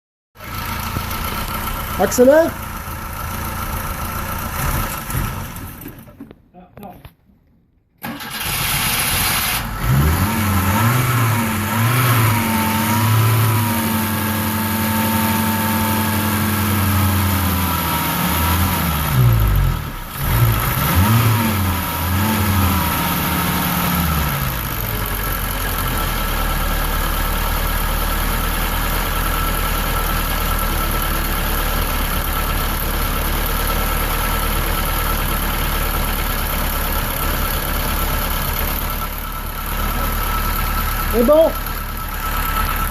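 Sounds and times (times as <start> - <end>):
car engine revving and idling: 0.4 - 6.1, 8.0 - 42.9.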